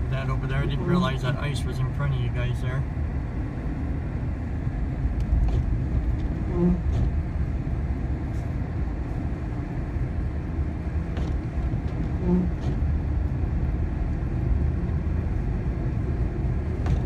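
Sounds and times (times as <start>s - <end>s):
truck engine rumble: 0.0s - 17.0s
tyres on snowy road: 0.0s - 17.0s.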